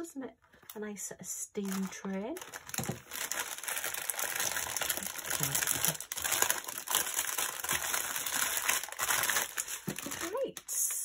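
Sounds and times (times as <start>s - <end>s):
plastic packaging crinkling: 1.6s - 11.0s.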